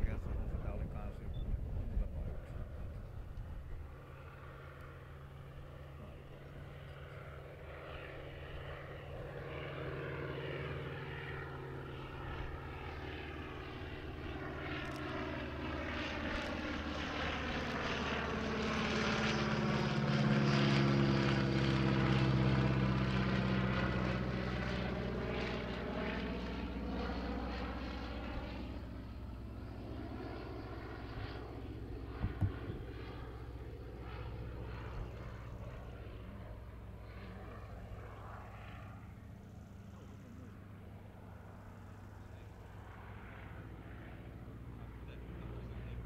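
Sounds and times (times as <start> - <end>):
propeller plane engine droning: 0.0 - 46.0.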